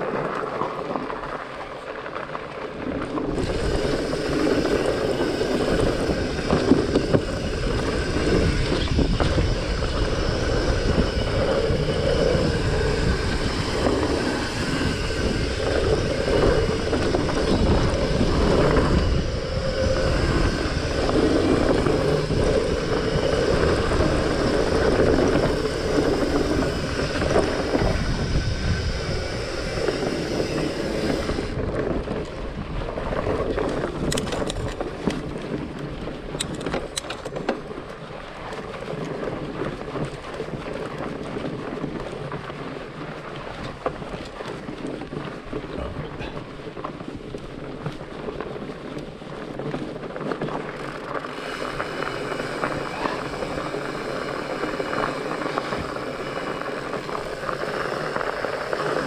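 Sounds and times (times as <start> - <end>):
bike rattling: 0.0 - 59.0
bike tyres crunching on dirt: 0.0 - 59.0
wind rushing on microphone: 0.0 - 59.0.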